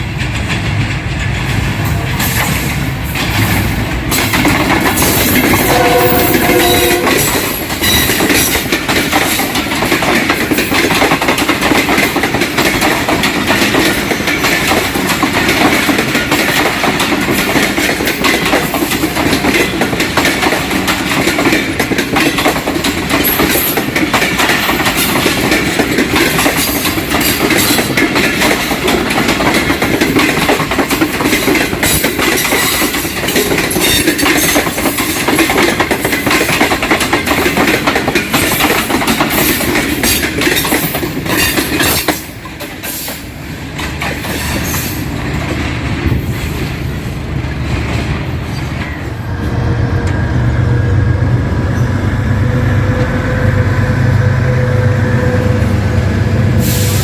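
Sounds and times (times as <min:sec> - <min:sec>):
train wheels clickety-clack: 0:00.0 - 0:53.4, 0:55.4 - 0:57.0
passenger train rumbling past: 0:00.0 - 0:57.0.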